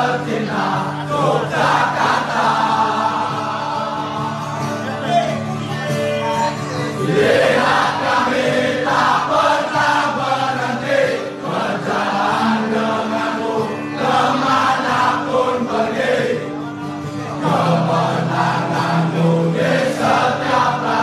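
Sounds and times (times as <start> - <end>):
crowd chanting in unison: 0.0 - 4.8, 7.0 - 16.7, 17.3 - 21.0.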